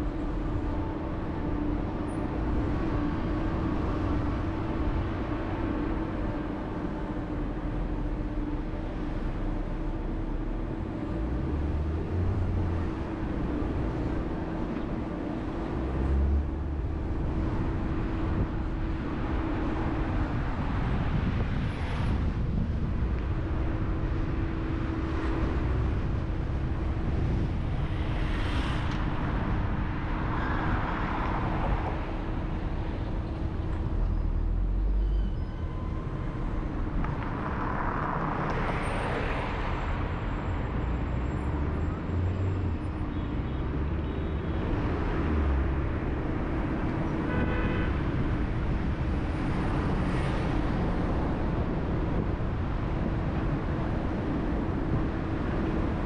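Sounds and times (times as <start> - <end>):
car engine and tyres rumbling: 0.0 - 56.0
passing vehicles whooshing: 0.0 - 56.0.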